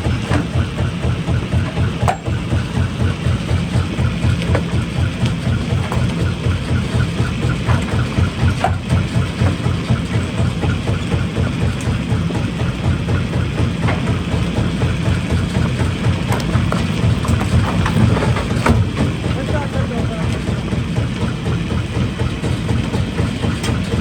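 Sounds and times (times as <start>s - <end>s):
rock-crushing machinery rumbling: 0.0s - 24.0s.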